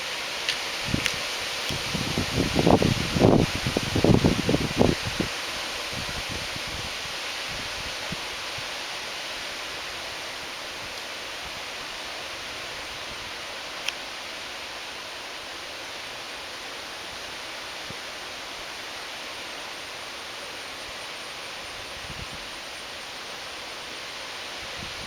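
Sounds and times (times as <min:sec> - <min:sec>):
wind through grass and trees: 0:00.0 - 0:25.0.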